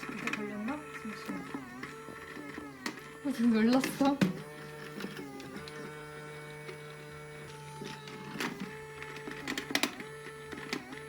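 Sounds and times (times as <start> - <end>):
toy motor whirring hum: 0.0 - 11.0.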